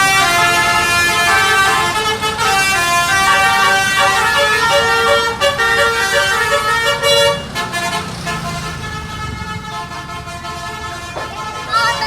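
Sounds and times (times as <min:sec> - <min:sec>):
multi-tone bus horn tune: 0:00.0 - 0:12.0.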